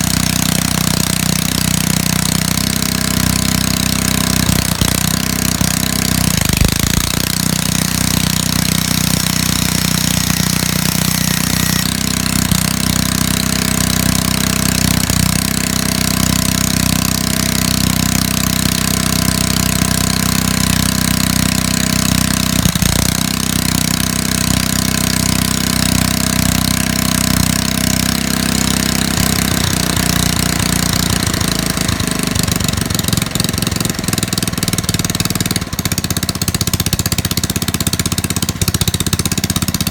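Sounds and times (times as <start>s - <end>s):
portable generator engine running: 0.0s - 39.9s.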